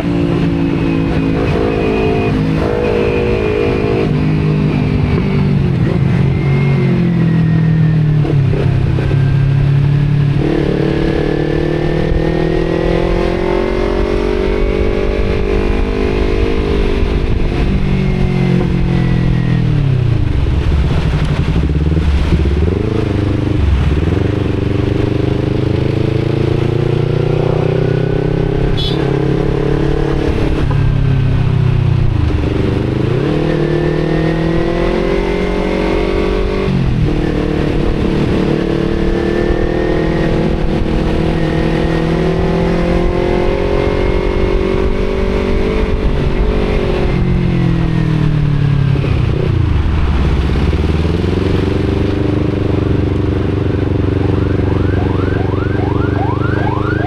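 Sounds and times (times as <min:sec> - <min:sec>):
wind noise on microphone: 0:00.0 - 0:54.8
motorcycle engine: 0:00.0 - 0:57.0.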